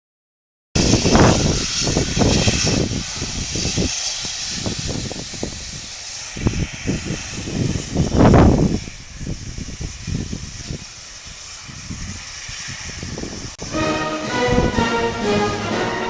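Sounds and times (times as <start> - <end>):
steam locomotive hissing: 0.8 - 16.0.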